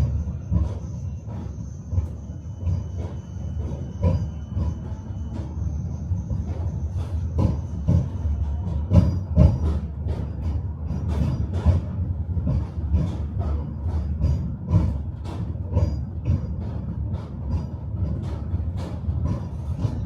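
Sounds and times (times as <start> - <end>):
tram rumbling: 0.0 - 20.0.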